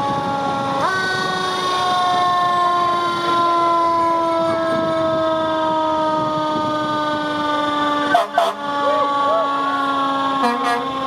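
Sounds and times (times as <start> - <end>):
fire truck siren falling tone: 0.0 - 11.0.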